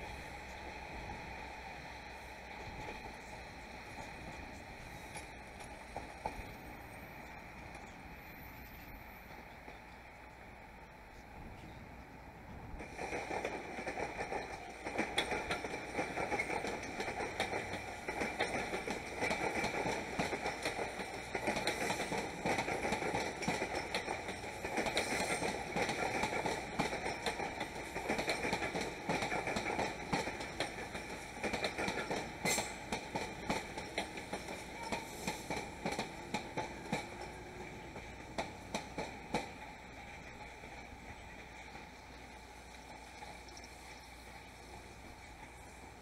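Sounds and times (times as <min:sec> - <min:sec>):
train wheels clattering over rail joints: 0:02.6 - 0:08.0, 0:12.7 - 0:46.0.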